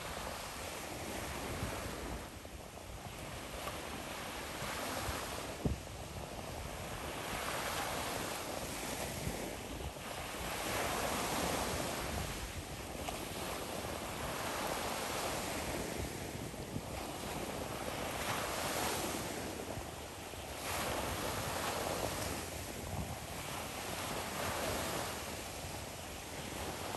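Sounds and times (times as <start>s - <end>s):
wind rumbling on microphone: 0.0s - 26.9s.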